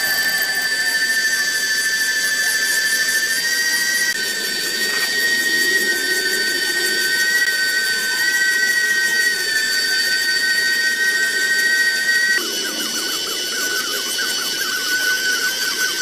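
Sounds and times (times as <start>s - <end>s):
toy motors whining: 0.0s - 16.0s.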